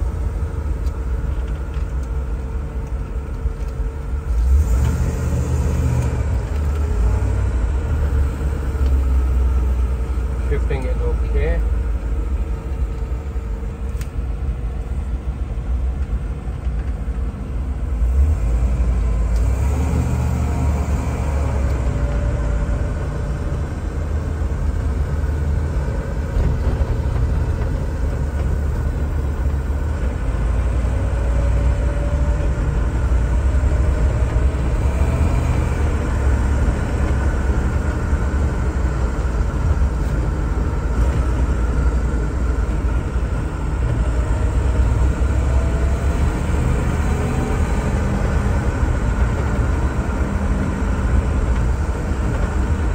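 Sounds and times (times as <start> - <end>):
car engine rumbling: 0.0 - 52.9
road noise: 0.0 - 52.9.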